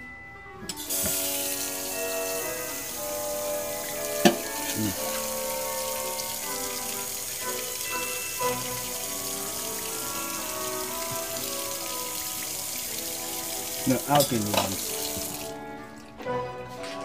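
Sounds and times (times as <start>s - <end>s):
background music: 0.0s - 17.0s
tap water running into sink: 0.8s - 16.2s.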